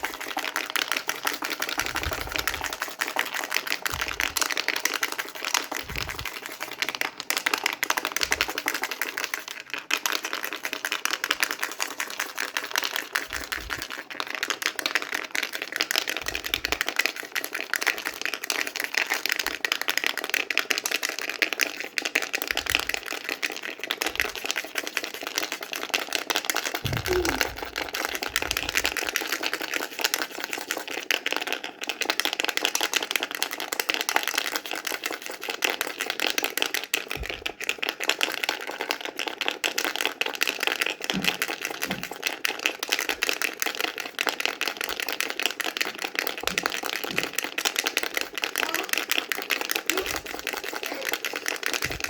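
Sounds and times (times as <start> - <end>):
baby rattle shaking: 0.0 - 52.0.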